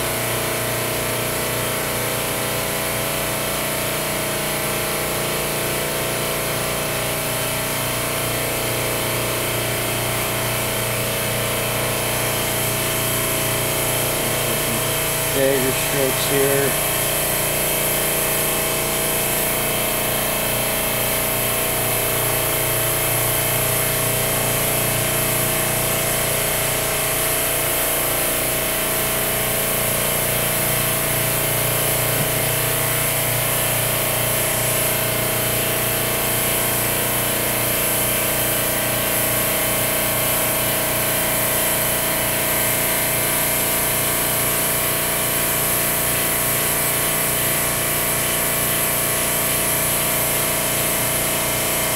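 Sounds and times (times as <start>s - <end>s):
air compressor humming: 0.0s - 51.9s.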